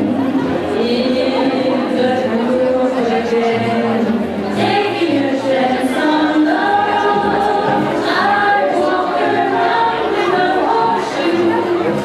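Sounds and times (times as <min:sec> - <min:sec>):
women's choir singing pop: 0:00.0 - 0:12.0.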